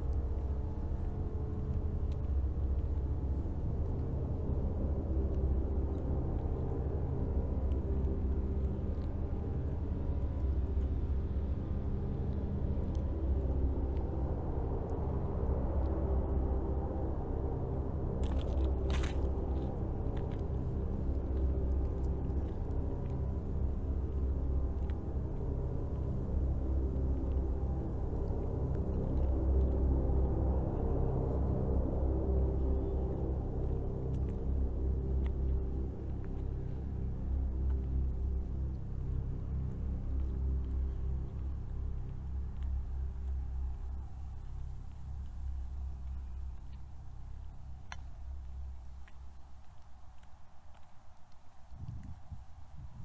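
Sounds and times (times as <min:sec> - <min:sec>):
low rumble: 0:00.0 - 0:53.0.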